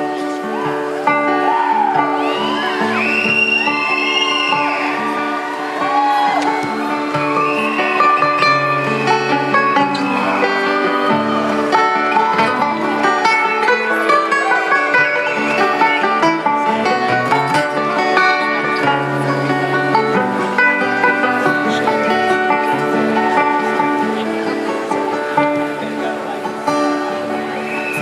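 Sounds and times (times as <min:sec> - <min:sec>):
acoustic string band playing: 0:00.0 - 0:28.0
picked banjo: 0:00.0 - 0:28.0
strummed acoustic guitar: 0:00.0 - 0:28.0.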